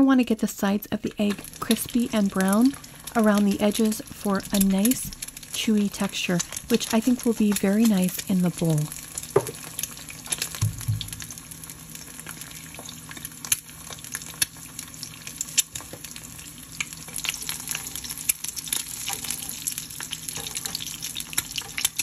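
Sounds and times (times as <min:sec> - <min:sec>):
egg sizzling in oil: 0:01.0 - 0:22.0.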